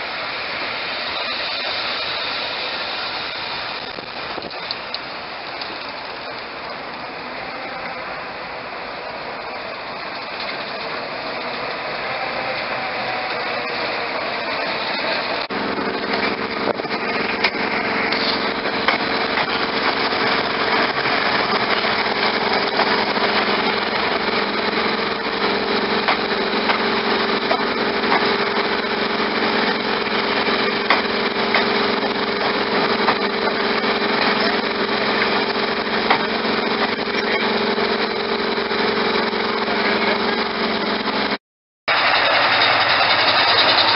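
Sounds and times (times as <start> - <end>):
diesel train running: 0.0 - 43.9.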